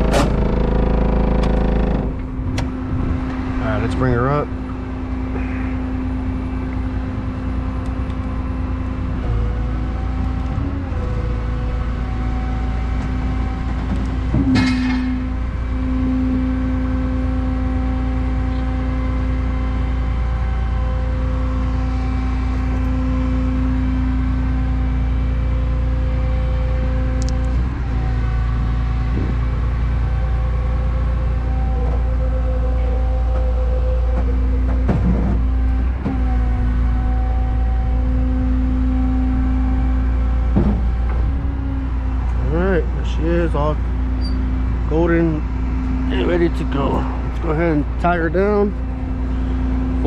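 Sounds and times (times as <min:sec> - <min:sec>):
engine running: 0:00.0 - 0:50.0
hydraulic pump whine: 0:00.0 - 0:50.0.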